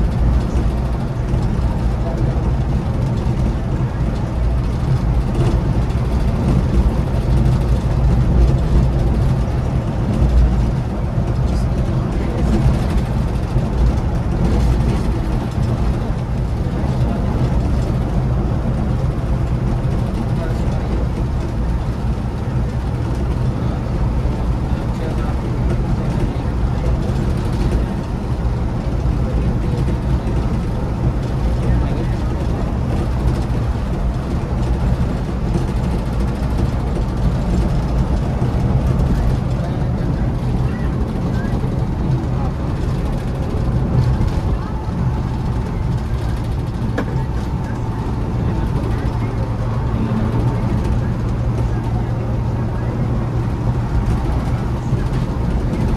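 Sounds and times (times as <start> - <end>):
coach engine and road noise: 0.0 - 55.9.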